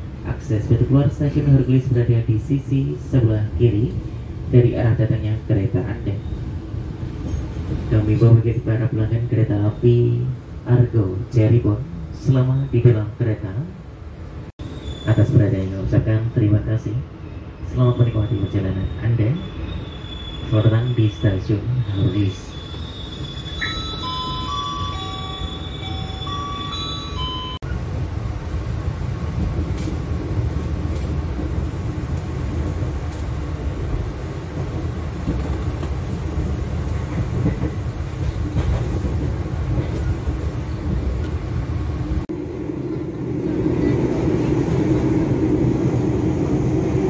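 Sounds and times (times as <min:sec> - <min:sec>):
train rumble and rattle on rails: 0:00.0 - 0:47.0.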